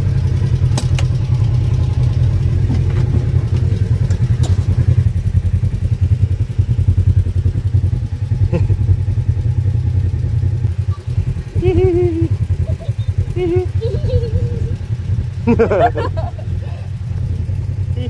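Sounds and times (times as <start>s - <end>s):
engine idling with low pulse: 0.0s - 18.0s.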